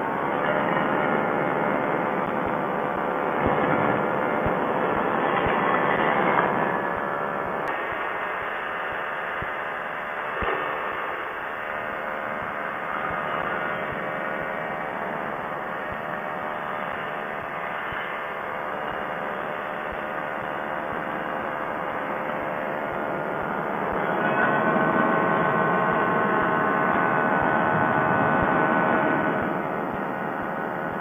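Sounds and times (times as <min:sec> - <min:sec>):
ultralight engine and propeller drone: 0:00.0 - 0:31.0.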